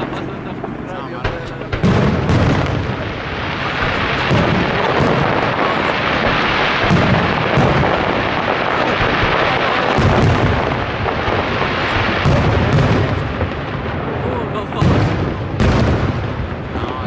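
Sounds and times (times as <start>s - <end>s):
fireworks crackling and rumbling: 0.0s - 17.0s
heavy firework booms: 0.0s - 17.0s.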